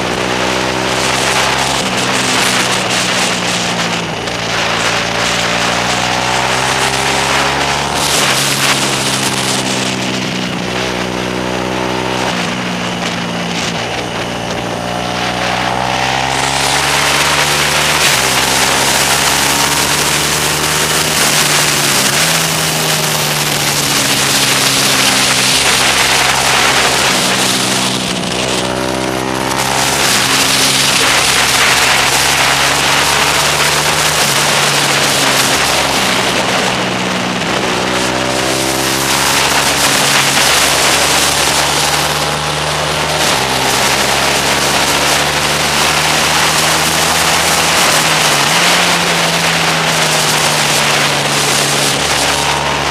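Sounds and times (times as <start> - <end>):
motorcycle engine revving: 0.0 - 52.9
wind rushing over microphone: 0.0 - 52.9.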